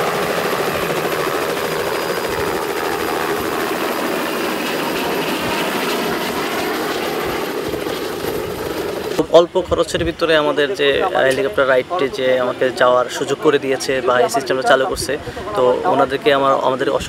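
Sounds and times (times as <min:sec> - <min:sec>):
helicopter turbine and rotor: 0:00.0 - 0:17.0.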